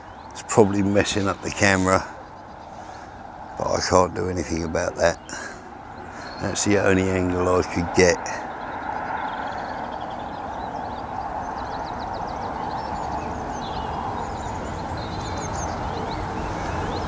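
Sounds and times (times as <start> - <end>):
small birds twittering: 0.0 - 17.0.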